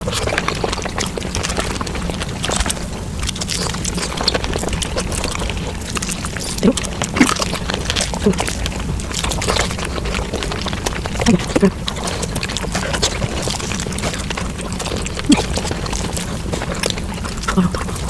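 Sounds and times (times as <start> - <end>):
fast chewing and biting: 0.0 - 18.0.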